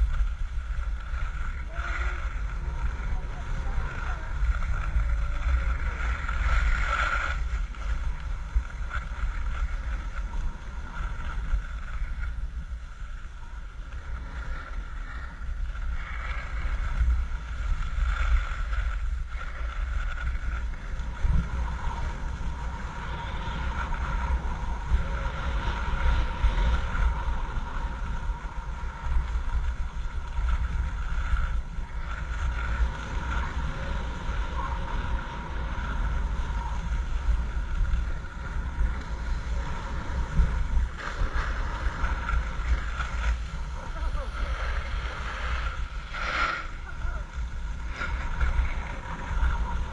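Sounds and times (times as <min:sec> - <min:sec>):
skis scraping over packed snow: 0:00.0 - 0:49.9
wind buffeting microphone: 0:00.0 - 0:49.9.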